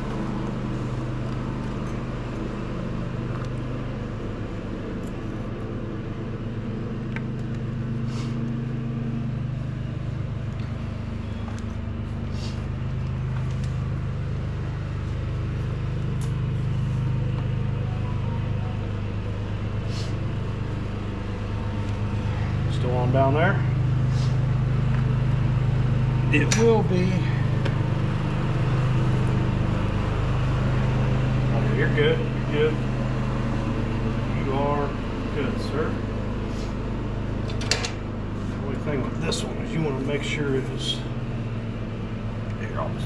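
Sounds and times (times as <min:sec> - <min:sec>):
engine running: 0:00.0 - 0:43.0.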